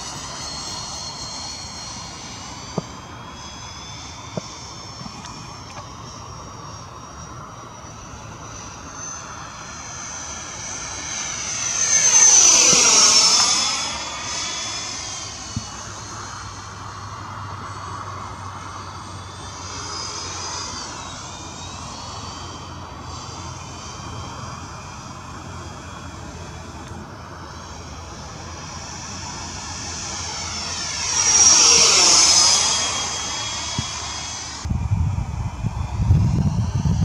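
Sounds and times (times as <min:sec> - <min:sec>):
model jet fan whining: 0:00.0 - 0:37.0.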